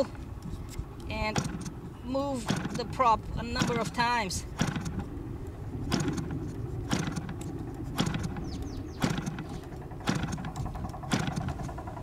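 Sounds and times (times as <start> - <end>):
propeller flipping engine snap: 0.7 - 5.2, 5.9 - 12.0.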